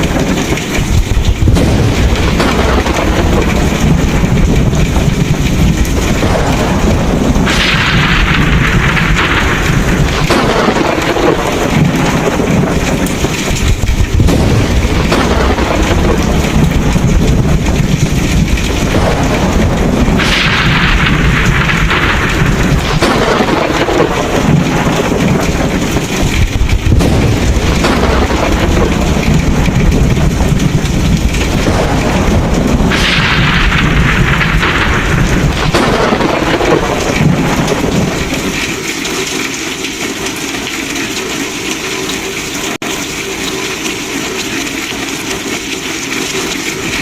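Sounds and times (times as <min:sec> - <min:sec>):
heavy rain: 0:00.0 - 0:47.0
thunder rumbling: 0:00.0 - 0:47.0.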